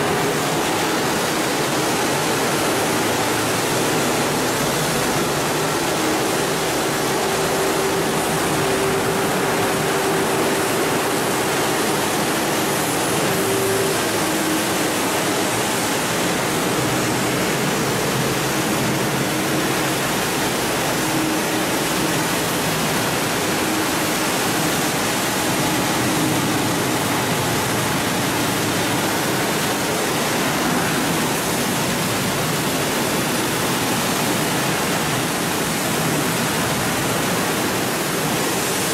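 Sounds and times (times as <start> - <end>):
polishing machine grinding stone: 2.0 - 33.6.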